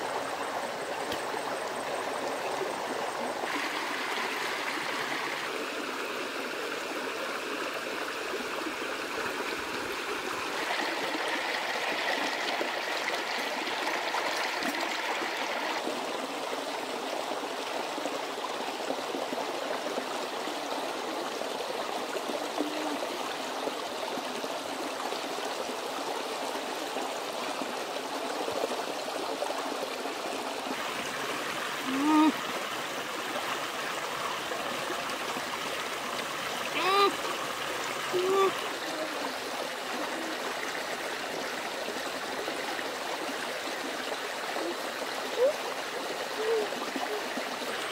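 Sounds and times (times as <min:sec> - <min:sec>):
stream running over rocks: 0:00.0 - 0:47.9.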